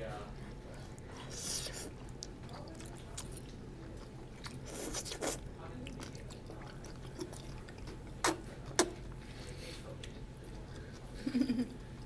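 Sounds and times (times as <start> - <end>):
people slurping and chewing noodles: 0.3 - 11.8.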